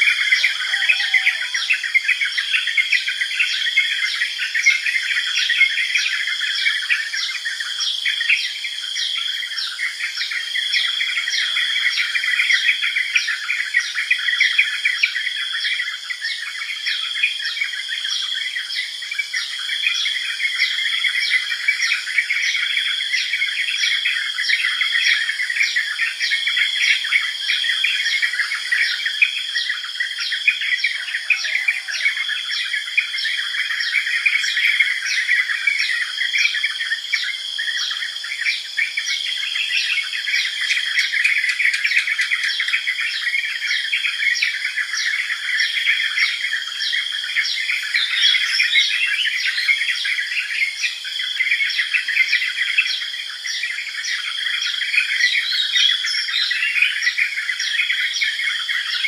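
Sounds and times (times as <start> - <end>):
bird chorus: 0.0 - 59.0
high insect whine: 0.0 - 59.0.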